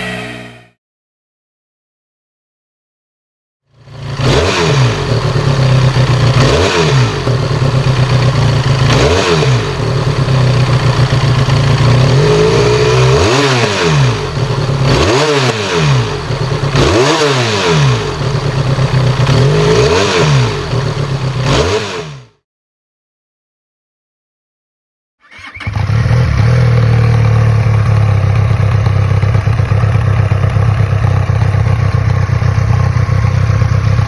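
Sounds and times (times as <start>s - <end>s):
motorcycle engine idling and revving: 3.7s - 22.4s, 25.2s - 34.0s.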